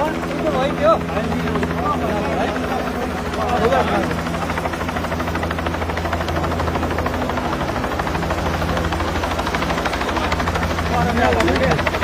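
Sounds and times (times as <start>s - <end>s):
helicopter rotor beat: 0.0s - 12.0s.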